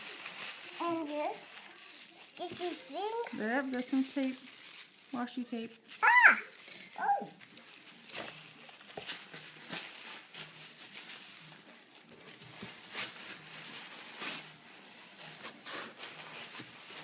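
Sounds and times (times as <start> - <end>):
tissue paper rustling and crinkling: 0.0 - 17.0.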